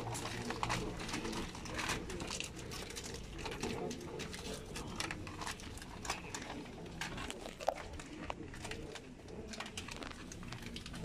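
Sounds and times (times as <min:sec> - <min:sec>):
low background noise: 0:00.0 - 0:11.0
paper seals clicking and rustling: 0:00.0 - 0:11.0.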